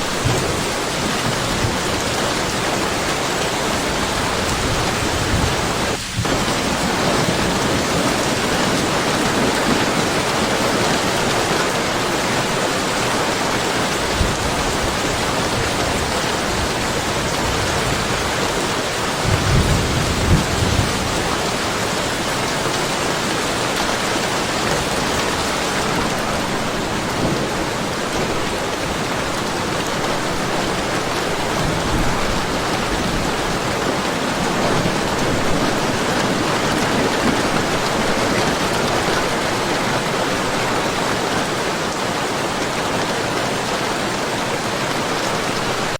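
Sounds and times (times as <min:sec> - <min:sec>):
low rumble of thunder: 0:00.0 - 0:11.4, 0:13.8 - 0:39.4
heavy rain pouring: 0:00.0 - 0:45.9.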